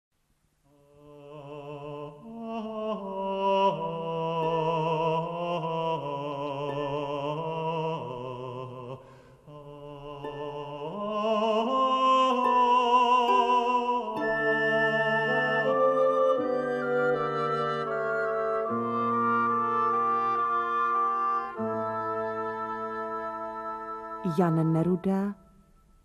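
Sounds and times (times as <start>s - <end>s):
slow music with vibrato: 0.7s - 26.0s.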